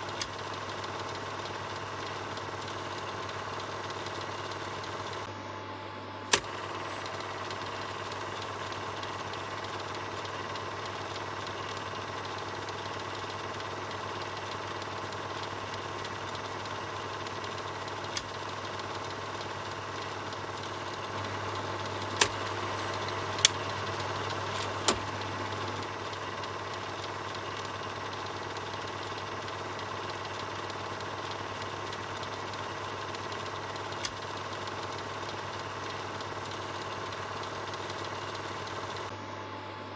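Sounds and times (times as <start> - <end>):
film projector running: 0.0 - 39.9
sharp clicks: 6.3 - 39.1.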